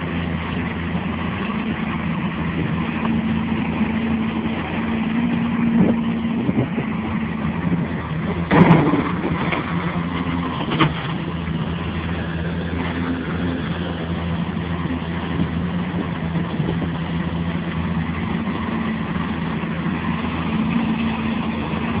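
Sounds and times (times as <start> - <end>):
heavy machine engine running: 0.0 - 22.0.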